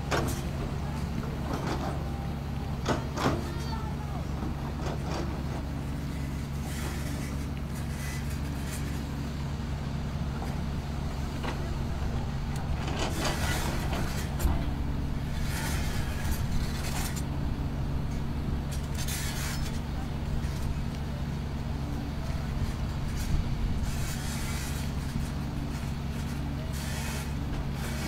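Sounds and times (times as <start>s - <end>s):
heavy machine engine running: 0.0s - 28.0s.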